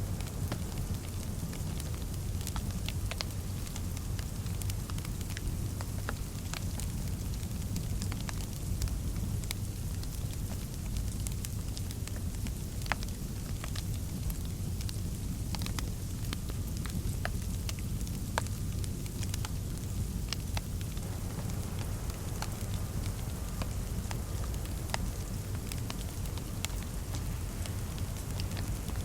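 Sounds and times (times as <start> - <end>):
fireplace fire crackling: 0.0 - 29.0.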